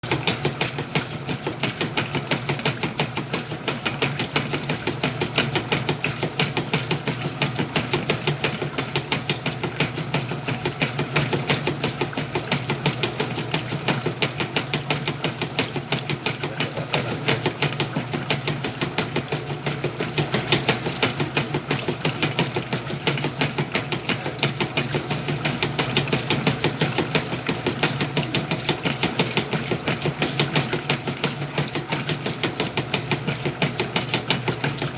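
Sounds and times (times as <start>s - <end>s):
washing machine motor hum: 0.0s - 34.9s.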